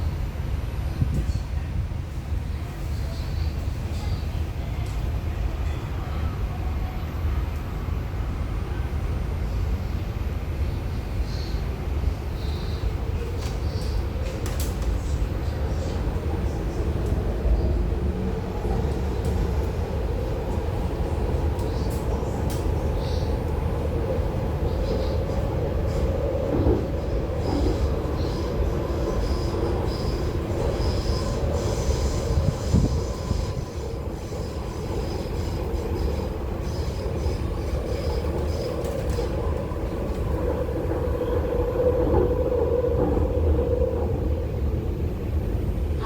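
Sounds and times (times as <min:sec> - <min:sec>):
train wheels rumbling on track: 0:00.0 - 0:46.0.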